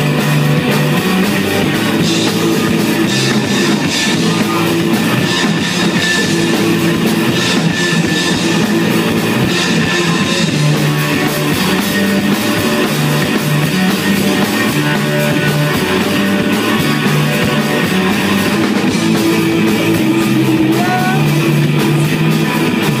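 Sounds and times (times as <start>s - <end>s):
bass guitar: 0.0s - 23.0s
drum kit: 0.0s - 23.0s
electric guitar: 0.0s - 23.0s.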